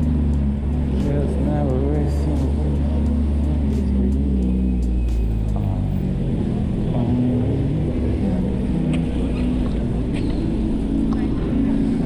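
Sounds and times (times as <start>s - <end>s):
city street rumble: 0.0s - 12.0s
vehicle engines passing: 0.0s - 12.0s.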